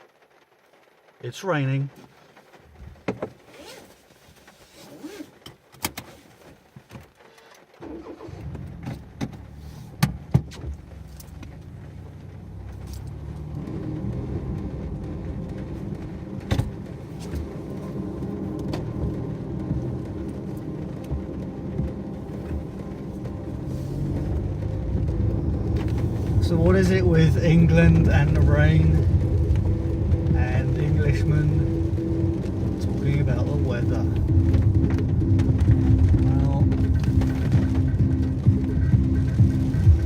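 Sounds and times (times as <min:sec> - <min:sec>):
car engine rumbling: 0:00.0 - 0:40.0
raindrops ticking on car roof: 0:00.0 - 0:40.0.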